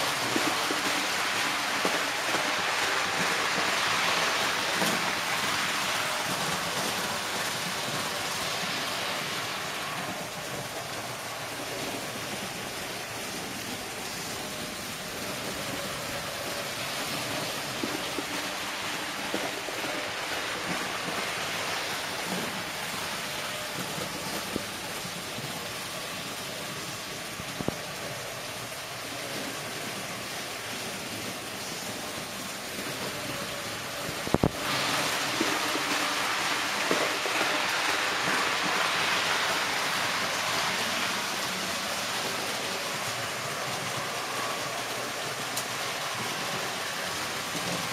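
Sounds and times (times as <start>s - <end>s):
model train rolling on metal track: 0.0s - 47.9s.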